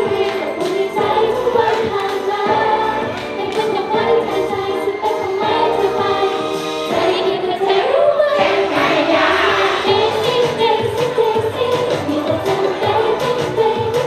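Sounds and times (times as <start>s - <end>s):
upbeat pop song over pa: 0.0s - 14.0s
women singing together: 0.0s - 14.0s.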